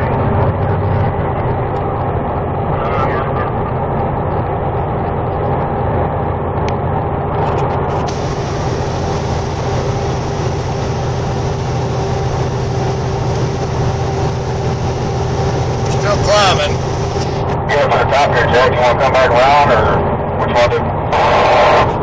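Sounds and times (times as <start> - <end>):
diesel truck engine drone: 0.0 - 22.0.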